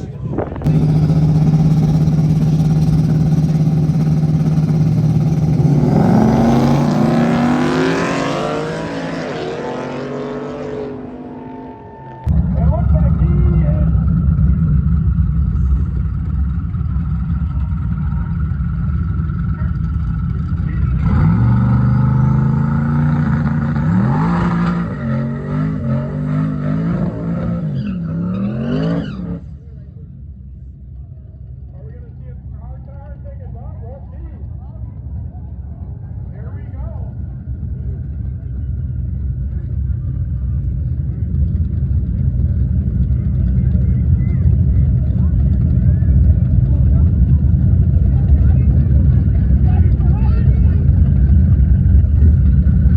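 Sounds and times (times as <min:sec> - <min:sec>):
car engine accelerating: 0:00.0 - 0:29.8, 0:36.2 - 0:52.9.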